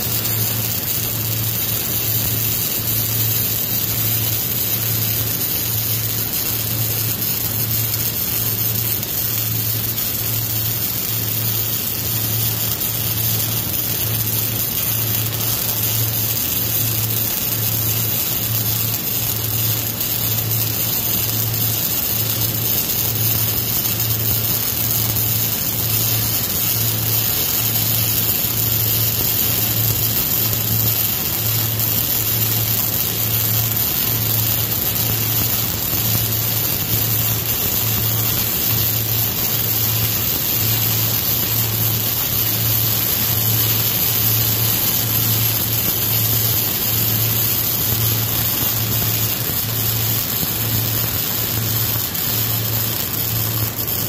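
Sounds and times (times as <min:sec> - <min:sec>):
welding arc crackling hiss: 0:00.0 - 0:54.0.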